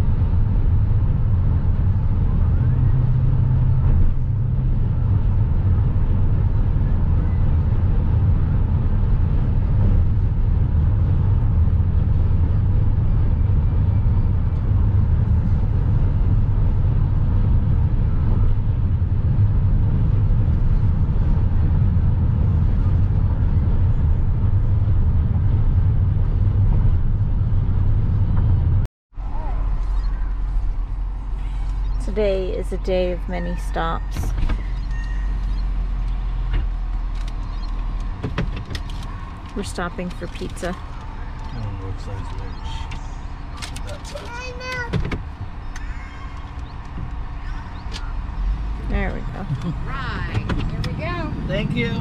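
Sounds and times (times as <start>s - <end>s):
car interior road rumble: 0.0s - 52.0s.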